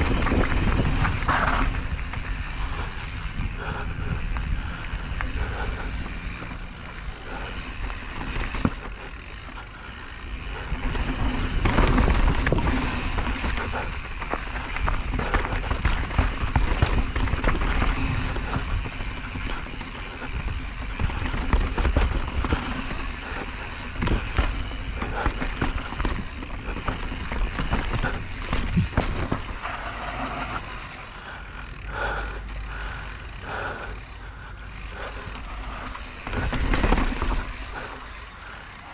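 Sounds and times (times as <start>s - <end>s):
bike rattling and knocking: 0.0s - 38.9s.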